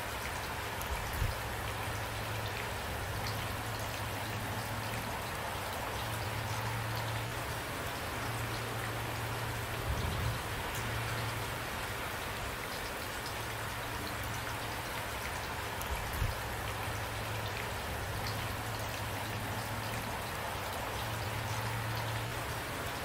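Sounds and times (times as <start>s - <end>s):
raindrops hitting a surface: 0.0s - 23.0s
steady rain falling: 0.0s - 23.0s.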